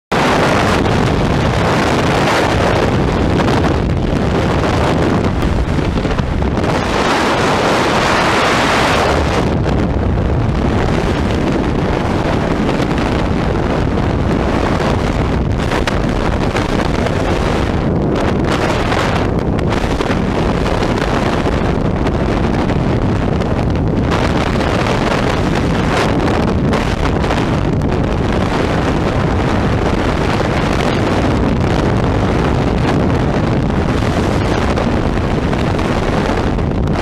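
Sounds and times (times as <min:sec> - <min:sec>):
wind buffeting microphone: 0:00.1 - 0:37.0.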